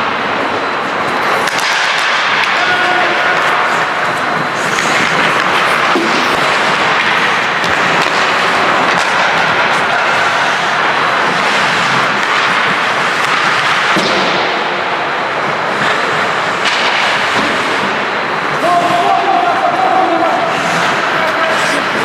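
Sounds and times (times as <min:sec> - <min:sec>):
hockey sticks and puck knocking: 0:00.0 - 0:14.7, 0:15.4 - 0:22.0
arena noise: 0:00.0 - 0:22.0
ice skates rushing: 0:00.0 - 0:22.0.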